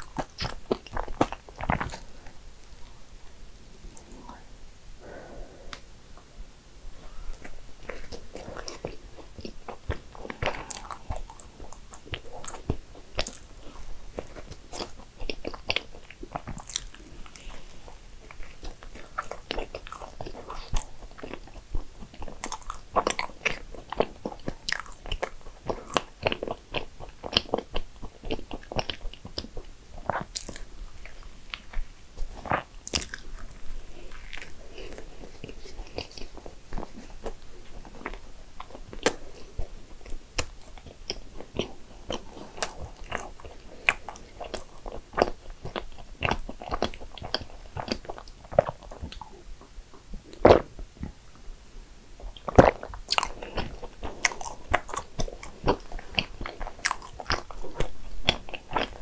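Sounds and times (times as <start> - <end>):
chewing mouth clicks and smacks: 0.0 - 2.0, 7.4 - 49.3, 52.3 - 59.0.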